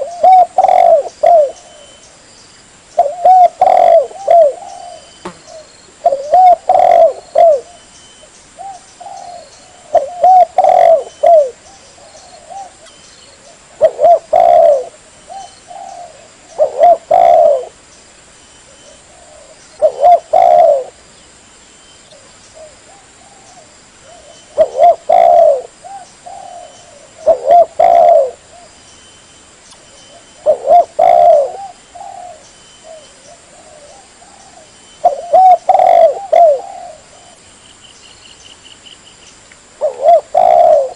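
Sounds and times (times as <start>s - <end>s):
dove cooing: 0.0s - 2.0s, 3.0s - 7.9s, 8.6s - 17.8s, 18.8s - 21.0s, 22.2s - 28.7s, 30.1s - 37.4s, 39.8s - 40.9s.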